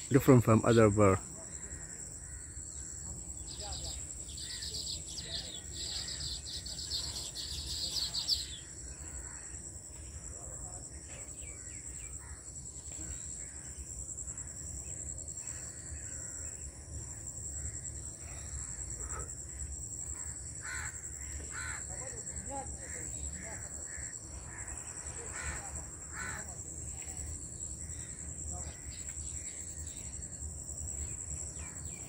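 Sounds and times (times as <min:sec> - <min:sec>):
birds chattering: 0:00.0 - 0:10.3, 0:10.9 - 0:32.0
steady high-pitched whine: 0:00.0 - 0:32.0.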